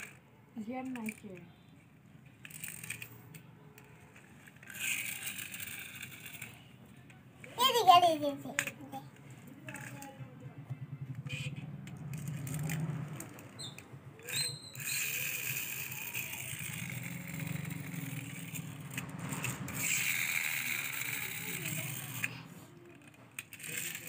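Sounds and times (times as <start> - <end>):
toy tractor rattling on concrete: 0.0 - 24.0.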